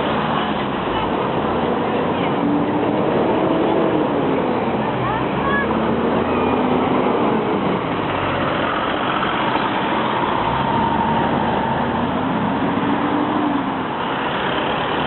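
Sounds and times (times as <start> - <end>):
traffic over level crossing: 0.0 - 15.0
vehicle engines running: 0.0 - 15.0.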